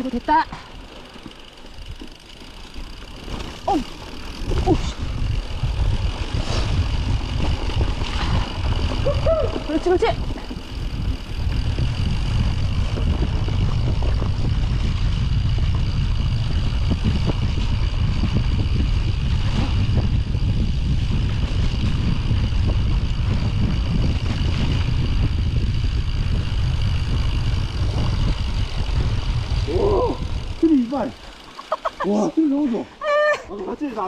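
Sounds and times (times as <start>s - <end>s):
wind buffeting microphone: 1.8s - 31.5s.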